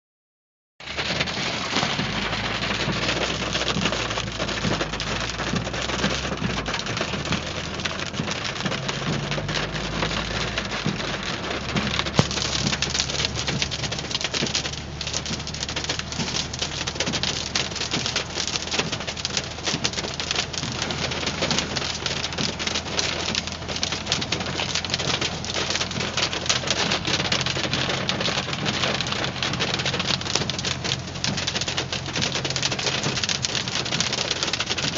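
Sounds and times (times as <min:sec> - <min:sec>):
hail pelting car: 0:00.8 - 0:34.9.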